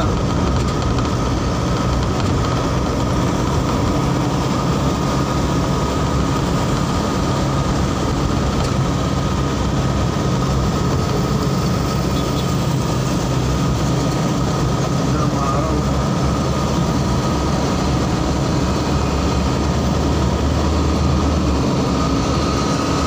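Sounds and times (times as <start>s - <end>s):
vehicle driving on highway: 0.0s - 23.0s.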